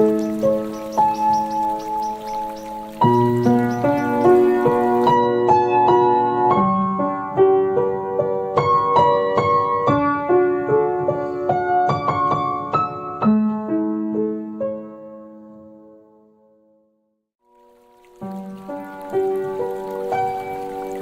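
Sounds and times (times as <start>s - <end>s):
gentle piano piece: 0.0s - 16.7s, 17.5s - 21.0s.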